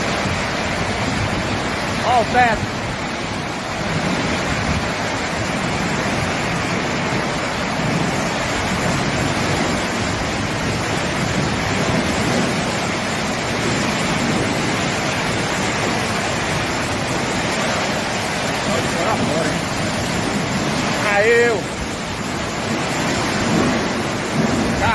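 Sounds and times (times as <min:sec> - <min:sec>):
heavy rainstorm with wind: 0:00.0 - 0:24.9.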